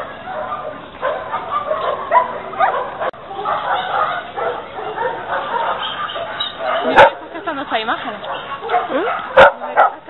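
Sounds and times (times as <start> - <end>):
dogs barking: 0.0 - 10.0
dogs yelping: 0.0 - 10.0.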